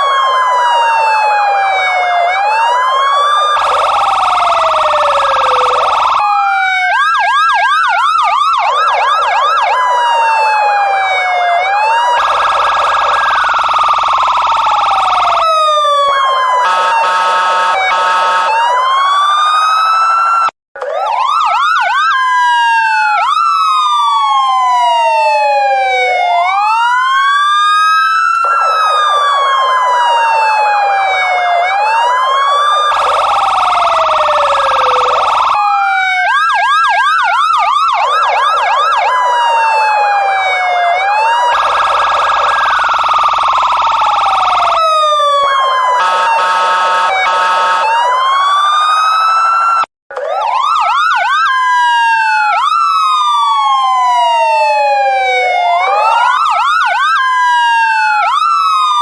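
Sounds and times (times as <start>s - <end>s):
loud police siren: 0.0s - 59.0s.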